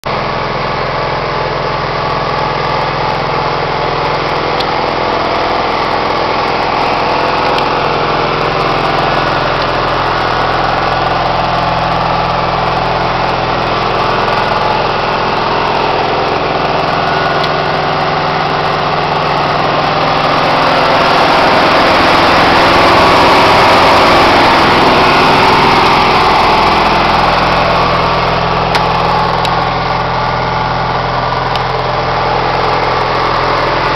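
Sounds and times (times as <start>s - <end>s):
four-stroke engine idling: 0.0s - 33.9s.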